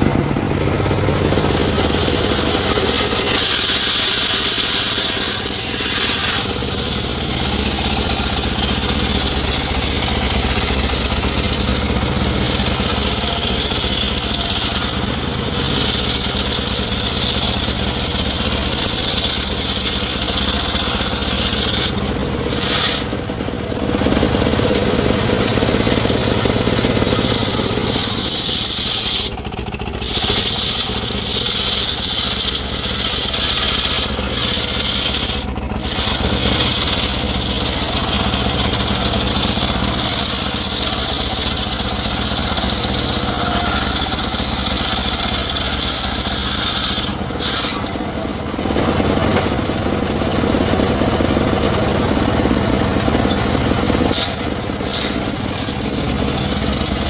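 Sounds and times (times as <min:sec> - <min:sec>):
engine-powered wood saw running: 0:00.0 - 0:57.0.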